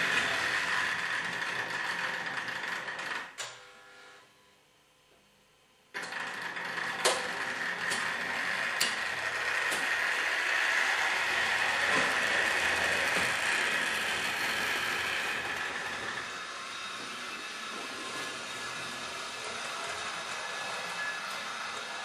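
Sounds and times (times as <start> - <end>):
model train whir and rattle: 0.0 - 3.4, 6.0 - 22.0.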